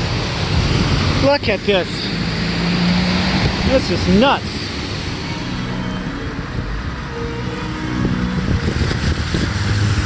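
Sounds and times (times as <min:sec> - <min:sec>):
car engine hum: 0:00.0 - 0:10.0
tyres rushing through water: 0:00.0 - 0:10.0
wind: 0:00.0 - 0:10.0.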